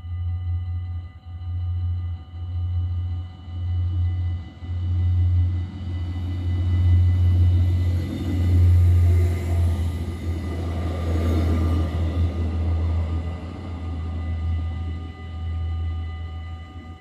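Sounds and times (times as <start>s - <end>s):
crossing warning bell ringing: 0.0s - 17.0s
train rumble and wheel noise: 0.0s - 17.0s.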